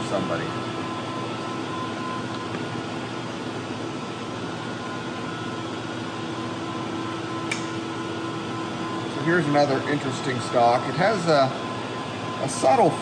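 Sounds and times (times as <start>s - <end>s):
ventilation whirring hum: 0.0s - 13.0s.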